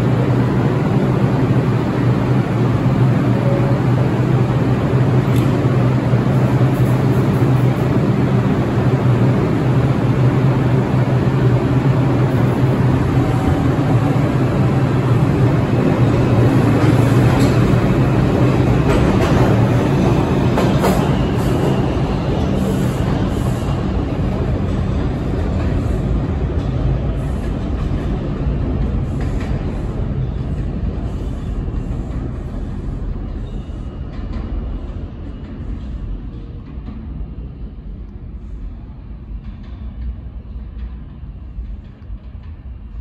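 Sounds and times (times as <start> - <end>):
subway train rumble and clatter: 0.0 - 43.0.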